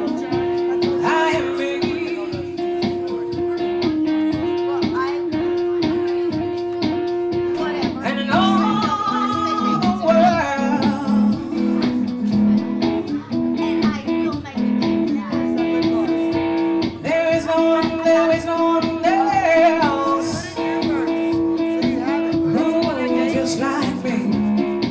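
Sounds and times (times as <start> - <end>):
person singing long notes: 0.0 - 14.0, 17.0 - 24.9
guitar picking notes: 0.0 - 24.9.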